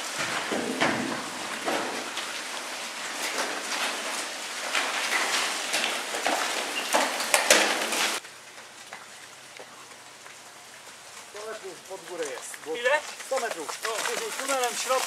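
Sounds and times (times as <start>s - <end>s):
bike clicks and rattles: 0.0s - 15.0s
tyres crackling on loose stones: 0.0s - 15.0s.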